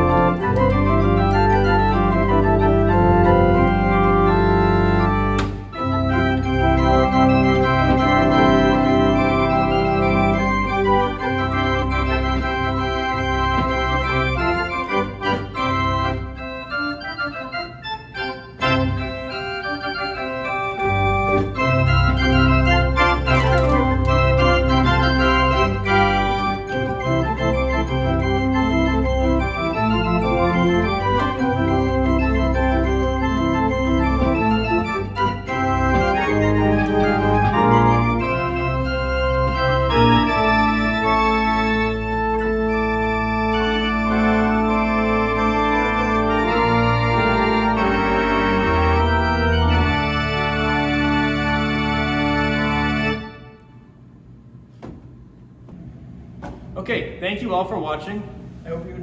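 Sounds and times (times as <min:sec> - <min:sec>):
pipe organ chords: 0:00.0 - 0:56.8.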